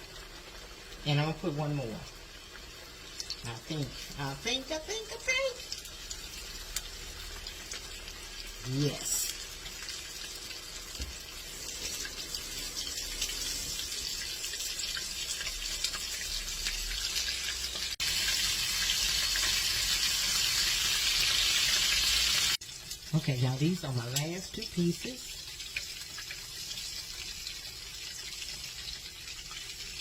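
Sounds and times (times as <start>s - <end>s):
bacon sizzling in grease: 0.0s - 30.0s.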